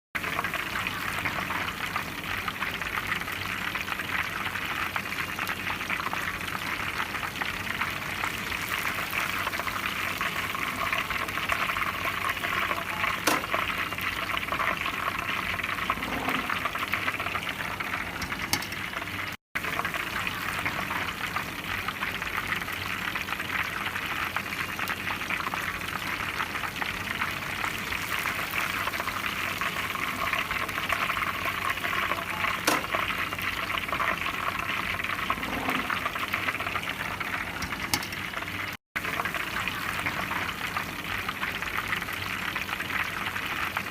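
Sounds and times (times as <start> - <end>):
fish sizzling in hot oil: 0.2 - 43.9.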